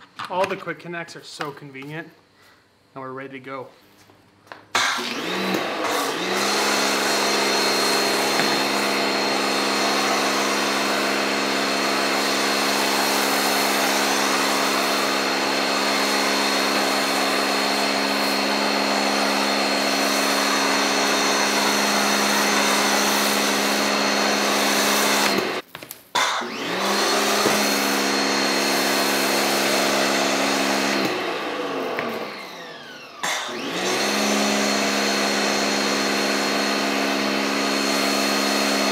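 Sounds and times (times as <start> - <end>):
pressure washer motor whine: 4.7 - 25.6, 26.3 - 38.9.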